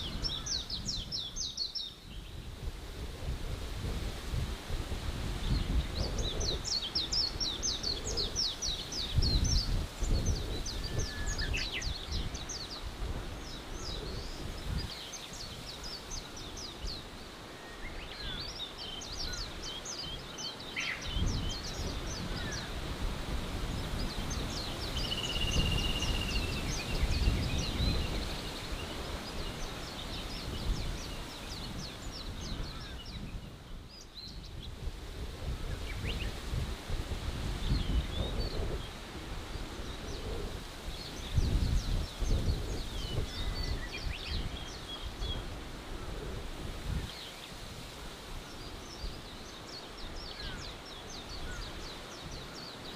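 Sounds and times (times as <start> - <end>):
songbirds trilling: 0.0 - 2.4, 5.4 - 52.9
gusty wind rumble: 0.0 - 17.2, 20.8 - 51.9.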